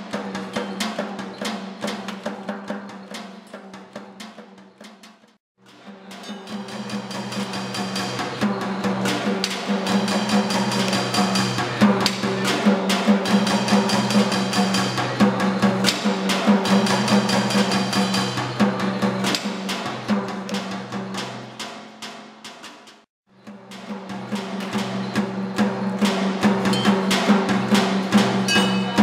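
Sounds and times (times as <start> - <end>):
clattering found-object percussion: 0.0 - 29.0.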